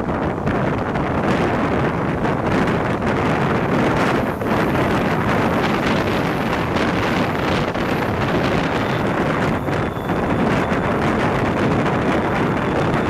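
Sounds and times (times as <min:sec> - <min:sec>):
moving train rumble: 0:00.0 - 0:13.0
wind buffeting microphone: 0:00.0 - 0:13.0.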